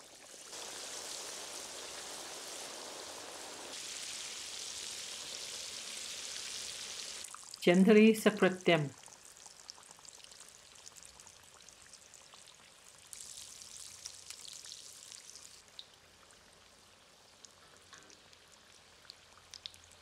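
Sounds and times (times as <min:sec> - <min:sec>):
oil crackling and sizzling: 0:00.0 - 0:07.7, 0:08.9 - 0:20.0.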